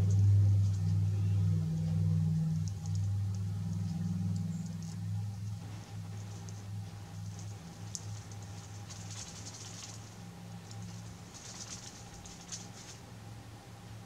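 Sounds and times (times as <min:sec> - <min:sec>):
steady low hum: 0:00.0 - 0:14.0
faint high crackling: 0:00.7 - 0:13.1.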